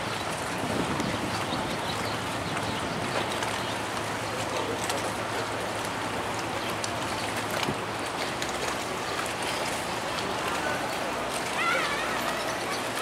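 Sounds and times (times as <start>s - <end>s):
water rushing along hull: 0.0s - 13.0s.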